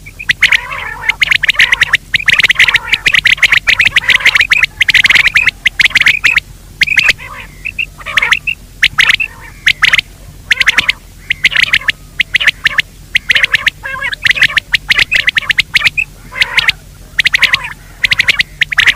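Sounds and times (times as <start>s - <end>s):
faint steady hum: 0.0s - 18.9s
rasping game bird calls: 0.0s - 18.9s.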